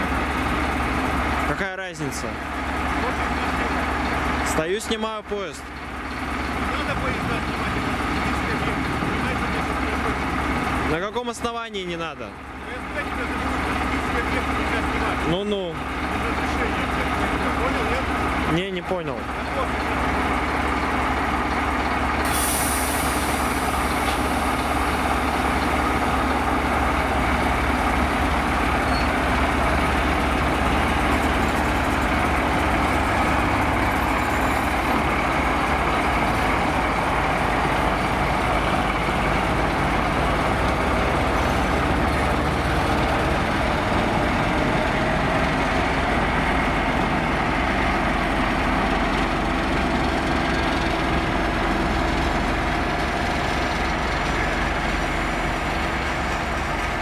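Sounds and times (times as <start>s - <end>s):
diesel locomotive engine running: 0.0s - 57.0s.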